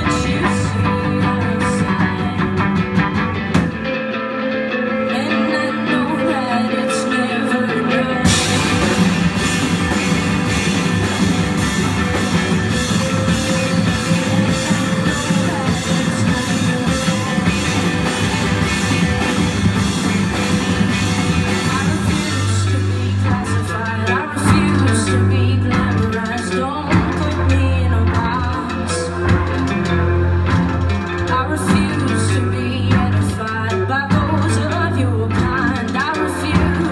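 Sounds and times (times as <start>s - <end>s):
drum kit: 0.0s - 4.5s, 7.8s - 36.9s
bass guitar: 0.0s - 36.9s
electric guitar: 0.0s - 36.9s
keyboard: 0.0s - 36.9s.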